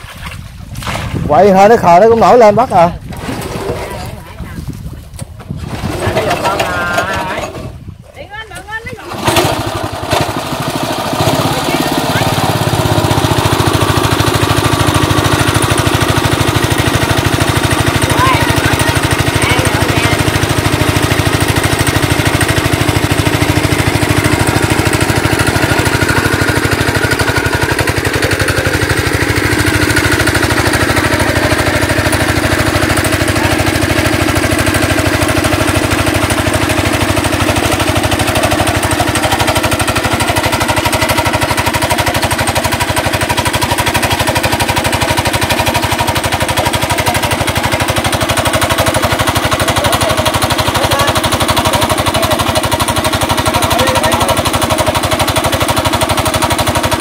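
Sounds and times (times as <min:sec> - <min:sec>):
water pump engine chugging: 0:00.0 - 0:57.0.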